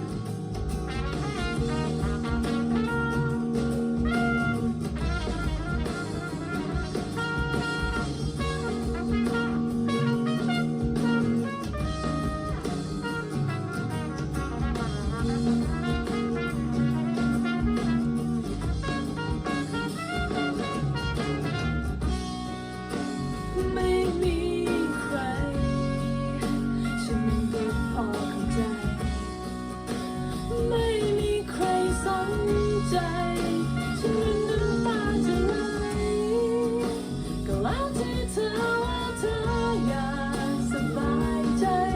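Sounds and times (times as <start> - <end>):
instrumental pop music over speakers: 0.0 - 41.9.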